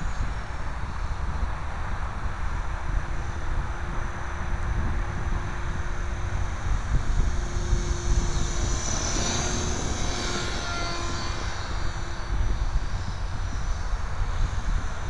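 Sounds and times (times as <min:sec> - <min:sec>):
model helicopter whine: 0:00.0 - 0:15.0
wind rumble on microphone: 0:00.0 - 0:15.0.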